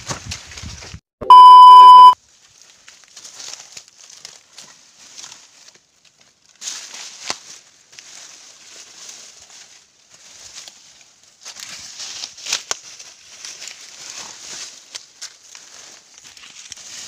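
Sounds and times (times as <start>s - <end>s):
dry corn stalks rustling: 0.0s - 1.0s, 2.2s - 17.0s.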